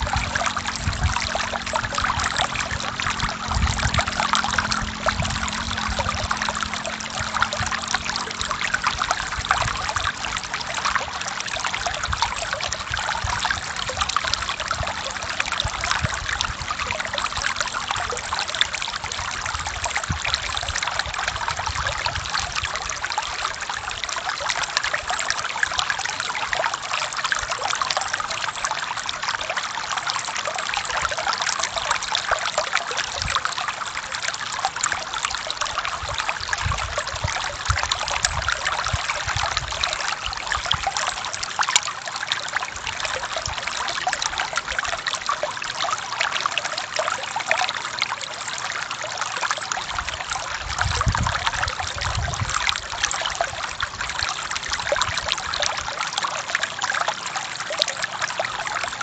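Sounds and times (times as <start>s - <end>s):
stream water flowing over rocks: 0.0s - 59.0s.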